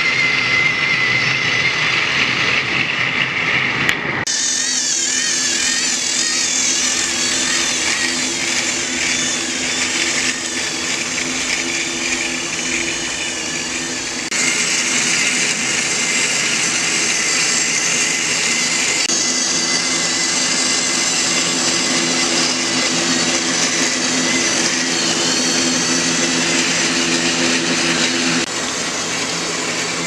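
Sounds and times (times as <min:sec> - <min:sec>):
toy train motor whirring: 0:04.3 - 0:28.8.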